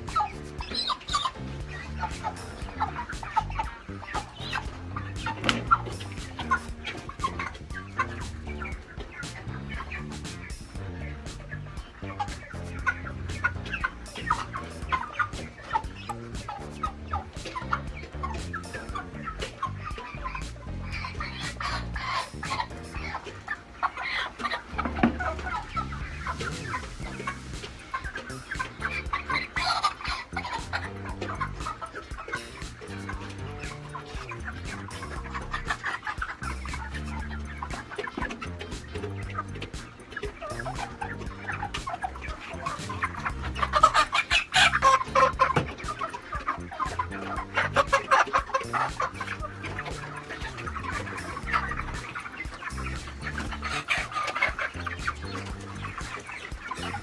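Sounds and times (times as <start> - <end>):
chickens clucking and cheeping: 0.0 - 57.0.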